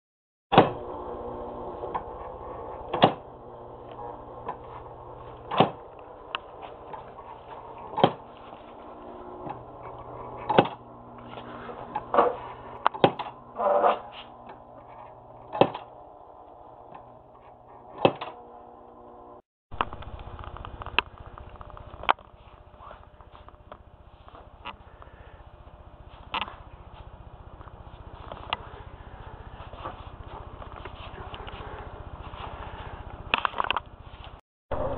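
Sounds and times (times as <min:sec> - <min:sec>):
mechanical hum: 0:00.5 - 0:34.9.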